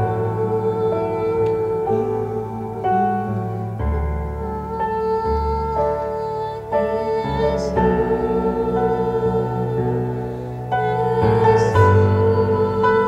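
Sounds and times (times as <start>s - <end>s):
electronic keyboard worship chords: 0.0s - 13.0s.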